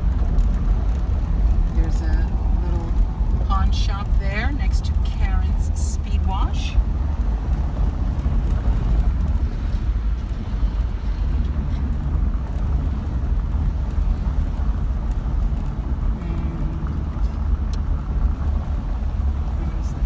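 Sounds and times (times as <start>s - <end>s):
car engine rumble: 0.0s - 20.0s
road noise inside car: 0.0s - 20.0s.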